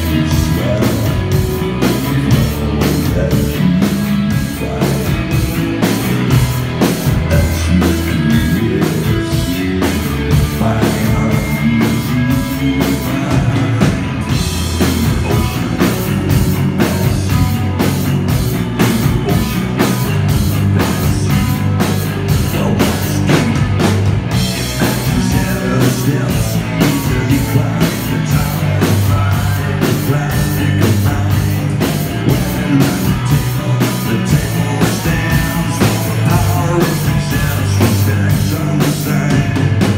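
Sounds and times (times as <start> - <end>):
bass guitar: 0.0 - 39.9
drum beat: 0.0 - 39.9
electric guitar: 0.0 - 39.9.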